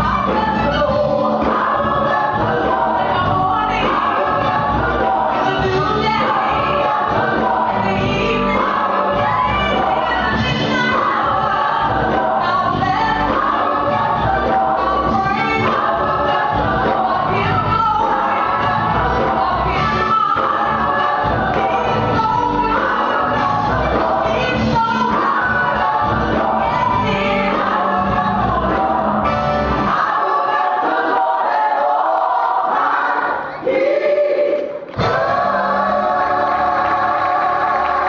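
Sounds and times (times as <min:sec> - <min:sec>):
gospel choir singing: 0:00.0 - 0:38.0.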